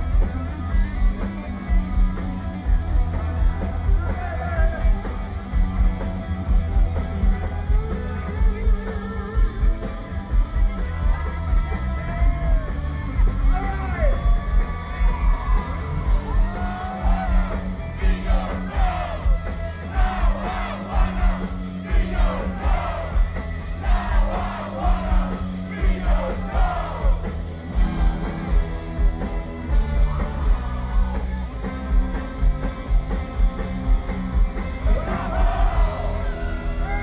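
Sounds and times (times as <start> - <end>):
drum and bass beat: 0.0 - 37.0
electric guitars: 0.0 - 37.0.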